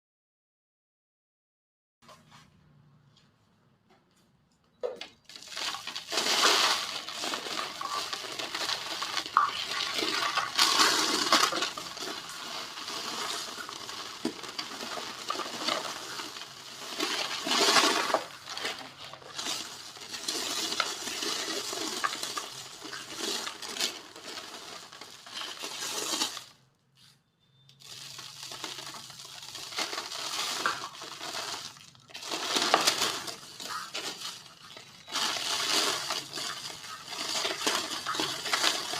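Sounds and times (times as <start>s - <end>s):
dry cement crumbling by hand: 4.9s - 26.5s, 27.8s - 38.9s.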